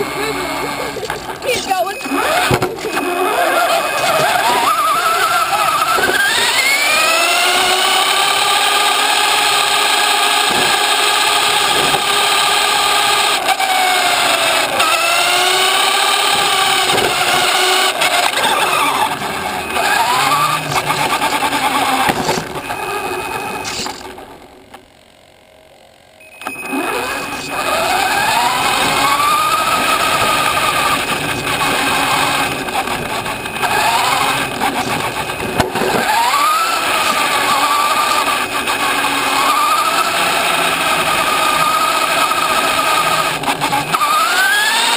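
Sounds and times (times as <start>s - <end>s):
rc car motor whining: 0.0s - 44.9s
tyres on road: 0.0s - 44.9s.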